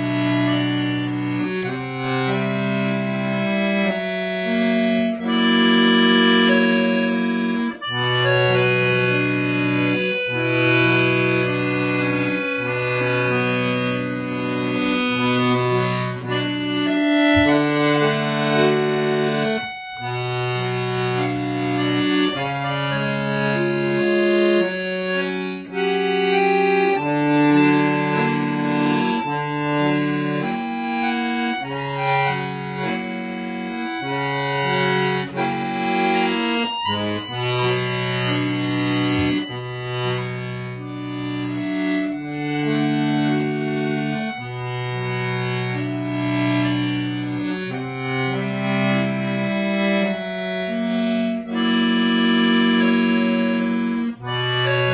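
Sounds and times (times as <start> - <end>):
solo accordion music: 0.0 - 54.9.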